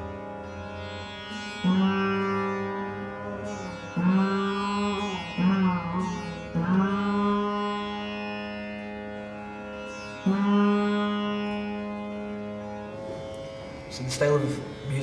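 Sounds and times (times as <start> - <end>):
plucked veena strings: 0.0 - 15.0.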